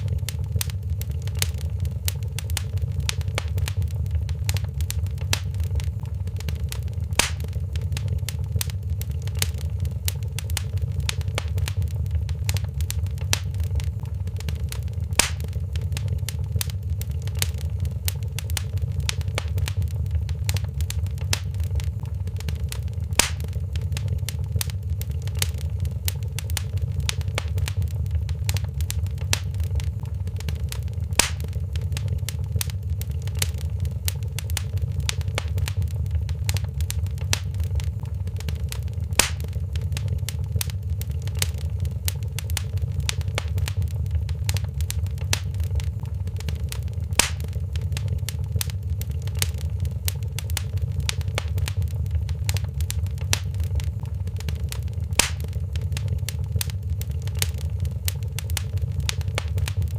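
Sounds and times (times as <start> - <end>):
fireplace fire crackling: 0.0 - 59.9
loud fire pop: 0.0 - 59.9
low fire rumble: 0.0 - 59.9.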